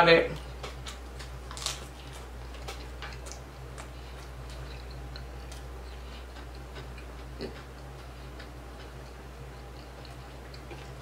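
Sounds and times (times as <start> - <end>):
steady low hum: 0.0 - 11.0
chewing a burger: 0.4 - 11.0.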